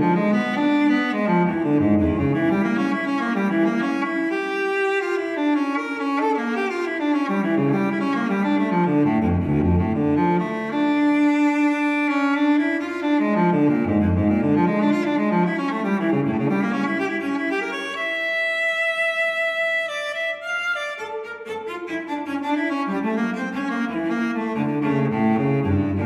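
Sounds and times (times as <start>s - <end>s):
bowed strings slow melody: 0.0s - 26.0s.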